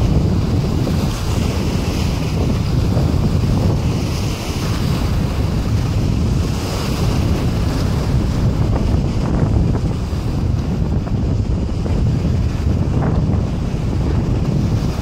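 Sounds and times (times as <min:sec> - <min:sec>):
small sea waves: 0:00.0 - 0:15.0
wind buffeting microphone: 0:00.0 - 0:15.0.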